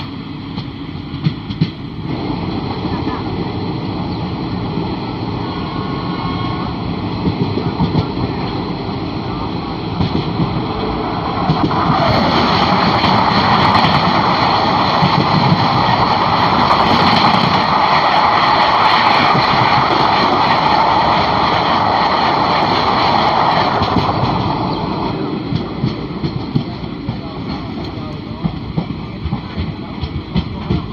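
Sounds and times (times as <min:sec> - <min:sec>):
passing train rush: 0:00.0 - 0:30.9
train wheels and wind rushing: 0:00.0 - 0:30.9.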